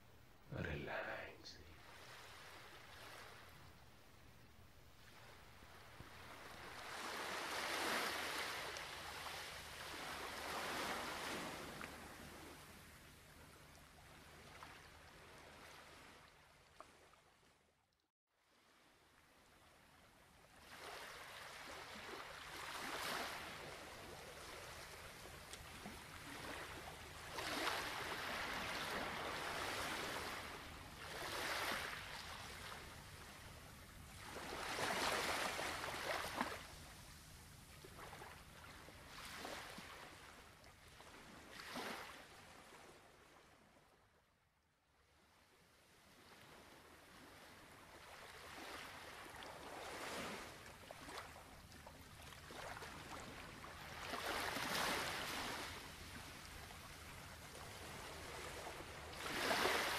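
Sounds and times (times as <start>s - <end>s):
gentle waves washing: 0.6s - 4.0s, 4.8s - 17.5s, 18.5s - 44.0s, 46.0s - 59.9s.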